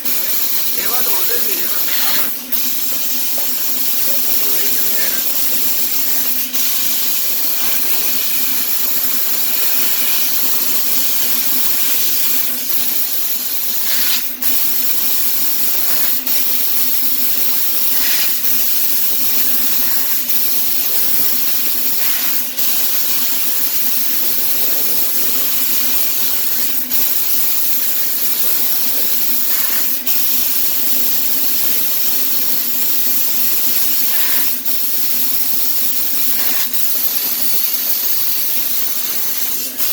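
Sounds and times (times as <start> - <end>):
laser cutting head hiss: 0.0 - 39.9.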